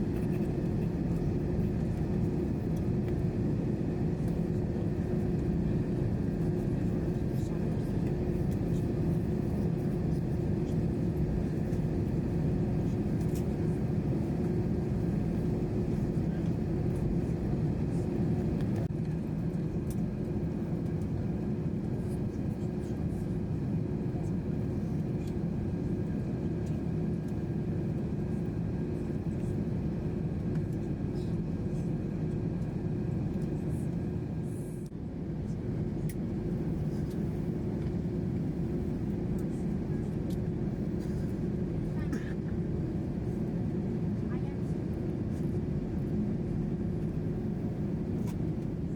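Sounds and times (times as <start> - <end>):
aircraft cabin engine rumble: 0.0 - 48.9.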